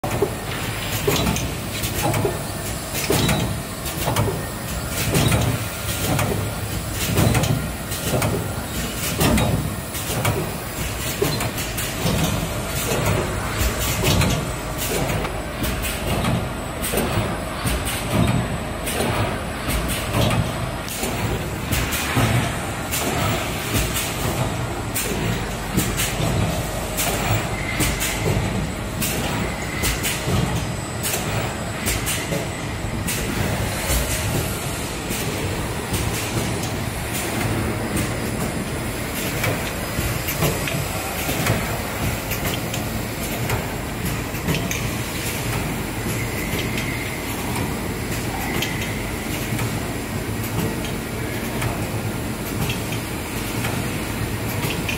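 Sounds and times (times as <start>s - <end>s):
mechanical clacks and knocks: 0.0s - 54.9s.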